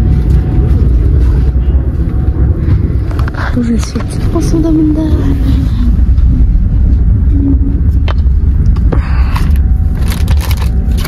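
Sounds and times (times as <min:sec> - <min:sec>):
train rumbling from inside carriage: 0:00.0 - 0:11.0.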